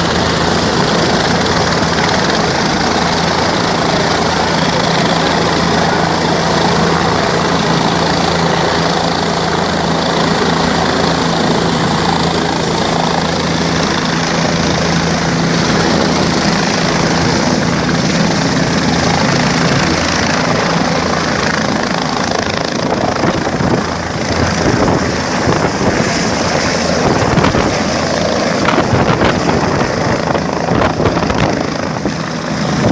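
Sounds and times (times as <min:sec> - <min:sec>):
helicopter drone: 0:00.0 - 0:32.9.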